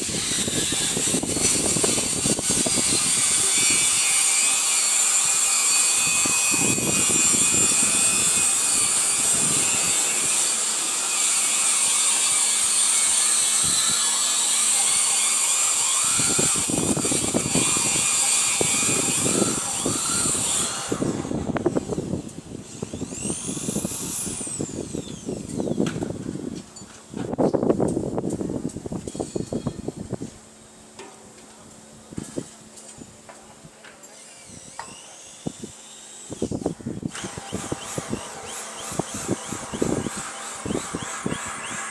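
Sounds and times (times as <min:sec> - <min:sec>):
power tool grinding steel: 0:00.0 - 0:26.0, 0:34.0 - 0:41.9.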